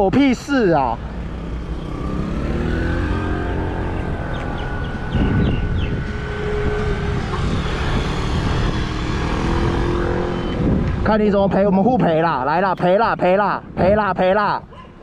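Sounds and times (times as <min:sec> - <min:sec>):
vehicle engines running: 0:00.0 - 0:14.4.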